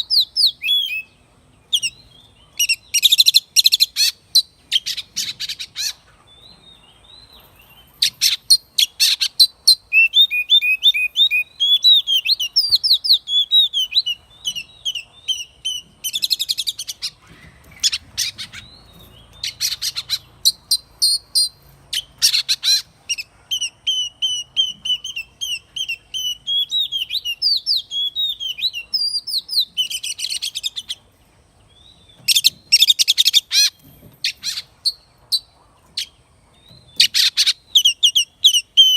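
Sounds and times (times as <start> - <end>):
bird singing whistled warbles: 0.0 - 6.0, 7.2 - 31.0, 31.7 - 35.4, 36.0 - 38.9.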